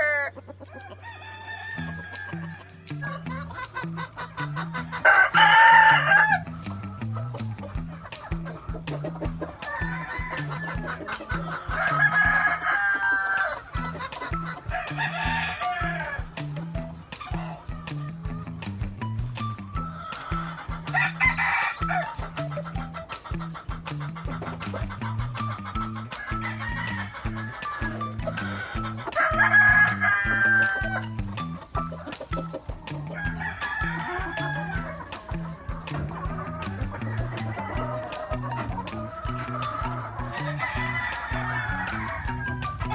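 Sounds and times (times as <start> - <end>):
roosters crowing: 0.0 - 18.6, 19.5 - 42.9
background music with low beat: 0.0 - 42.9.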